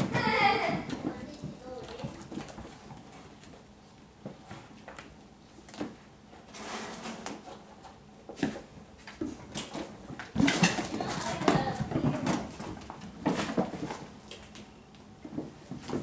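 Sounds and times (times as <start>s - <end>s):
kittens playing on floor: 0.0s - 16.0s.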